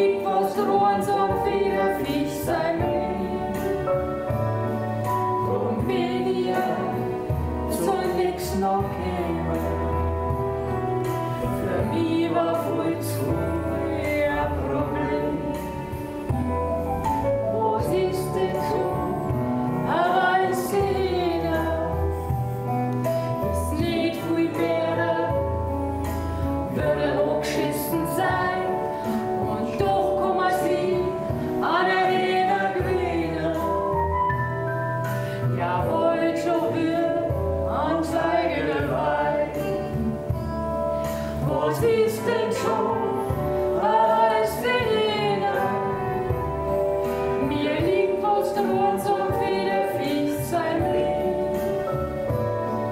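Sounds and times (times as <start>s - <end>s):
man and woman singing: 0.0s - 4.0s, 5.4s - 10.2s, 11.5s - 16.3s, 17.5s - 22.2s, 23.6s - 26.0s, 26.6s - 34.1s, 35.4s - 40.2s, 41.2s - 46.4s, 47.2s - 52.0s
instrumental backing music: 0.0s - 52.9s.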